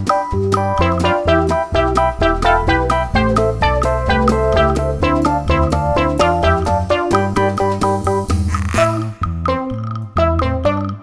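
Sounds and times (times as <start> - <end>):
bouncy keyboard tune: 0.0 - 11.0
steady bass line: 0.0 - 11.0.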